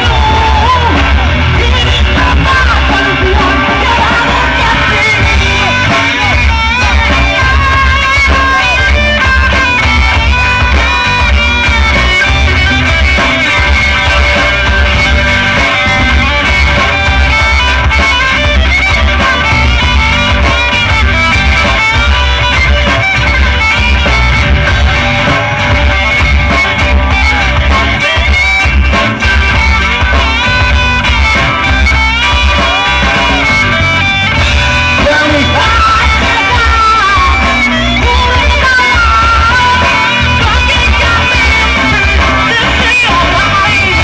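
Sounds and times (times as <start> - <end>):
electric guitar: 0.0 - 44.0
heavy bass: 0.0 - 44.0
rock band playing live: 0.0 - 44.0.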